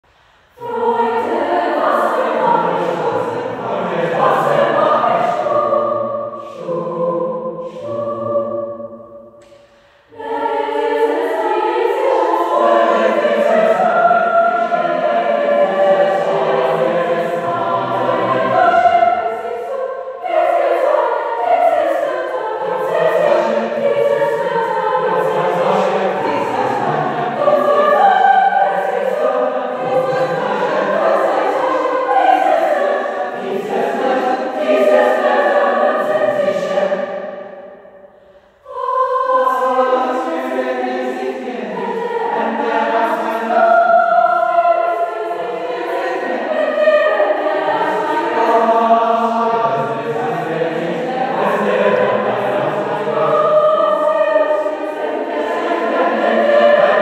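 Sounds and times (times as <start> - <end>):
choir singing: 0.4 - 57.0.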